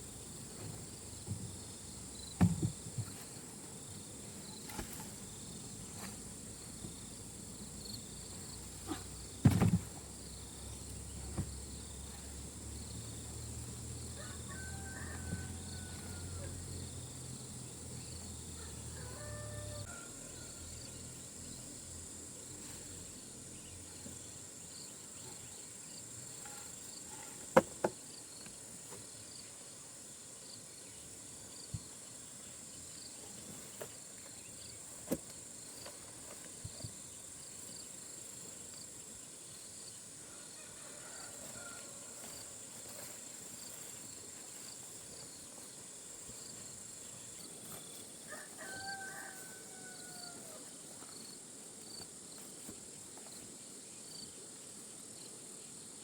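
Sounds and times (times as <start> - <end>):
crickets and insects chirping: 0.0 - 56.0.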